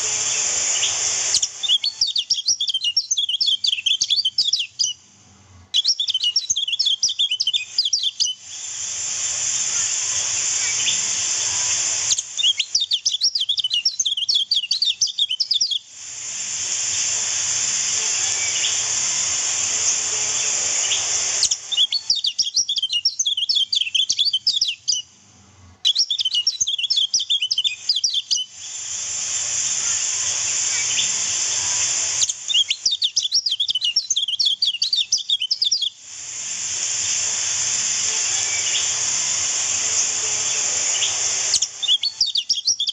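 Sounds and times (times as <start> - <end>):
bird chirping: 0.0 - 5.0, 5.7 - 8.8, 9.7 - 15.9, 16.9 - 25.1, 25.8 - 28.9, 29.6 - 36.0, 37.0 - 42.9.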